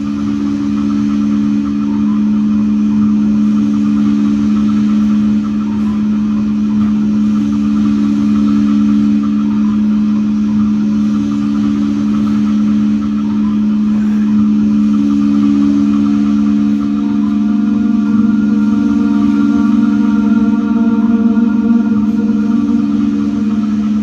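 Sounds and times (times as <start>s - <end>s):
rough low rumble: 0.0s - 24.0s
saxophone buzzing drone: 0.0s - 24.0s.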